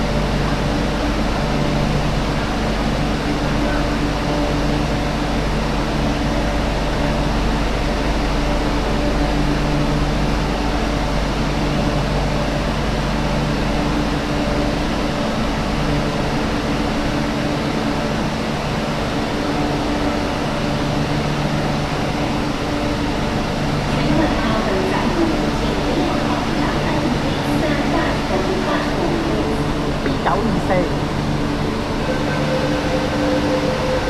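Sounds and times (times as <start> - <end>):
train air conditioning hum: 0.0 - 34.0.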